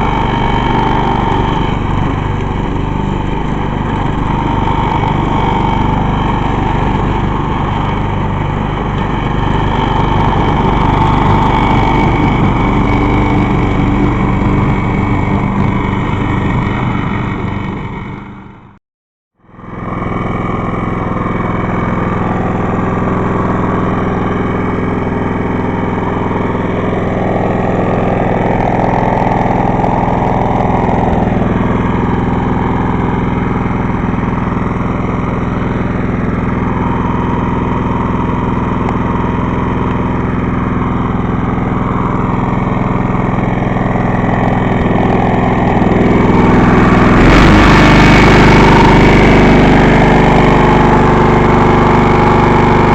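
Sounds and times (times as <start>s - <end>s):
lawn mower engine running: 0.0s - 18.8s, 19.4s - 52.9s.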